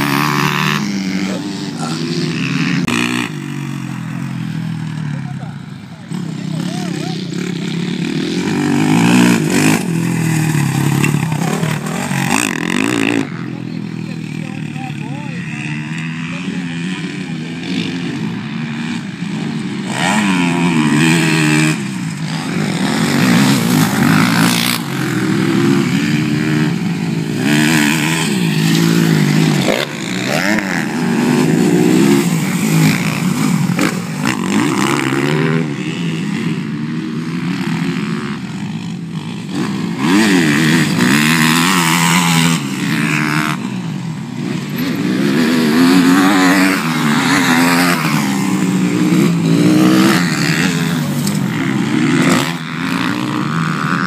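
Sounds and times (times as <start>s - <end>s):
motorbike engines revving: 0.0s - 54.0s.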